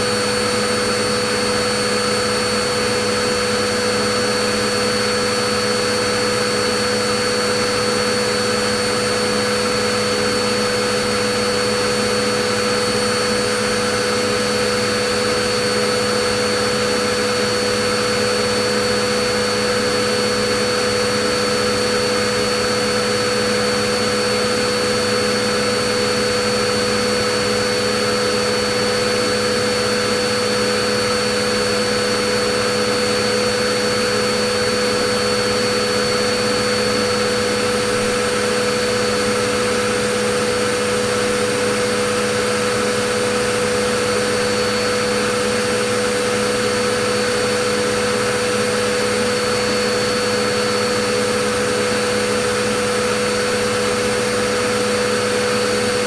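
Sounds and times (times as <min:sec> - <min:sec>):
vacuum cleaner motor whirring: 0:00.0 - 0:56.0.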